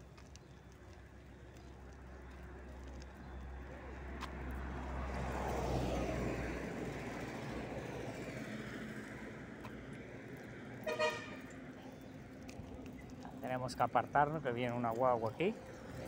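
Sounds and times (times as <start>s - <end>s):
car passing: 1.6s - 16.0s.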